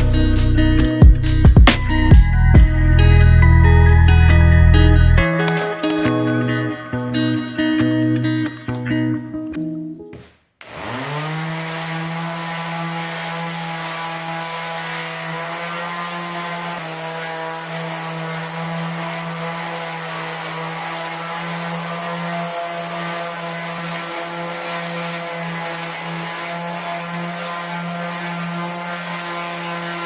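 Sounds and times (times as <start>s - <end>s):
electric power tool motor: 3.0s - 9.3s, 10.6s - 30.0s.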